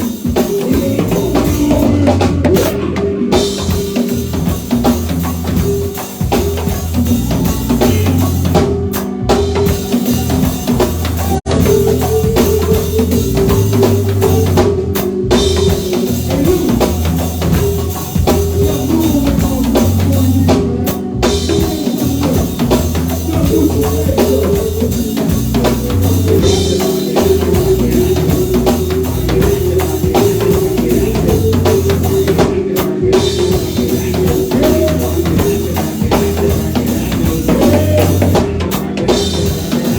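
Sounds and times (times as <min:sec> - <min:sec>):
drum kit beat: 0:00.0 - 0:39.9
live band playing: 0:00.0 - 0:39.9.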